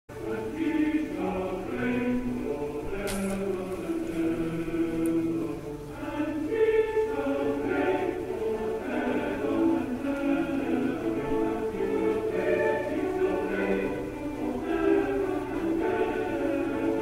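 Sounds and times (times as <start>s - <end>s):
choir singing long held notes: 0.1s - 17.0s.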